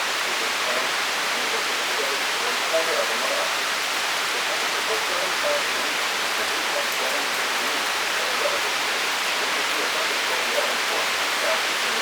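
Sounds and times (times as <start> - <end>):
torrential rain pouring: 0.0 - 12.0.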